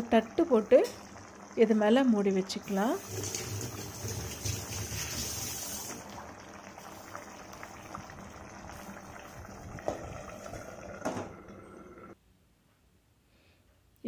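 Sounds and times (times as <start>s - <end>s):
curry bubbling and popping: 0.0s - 12.2s.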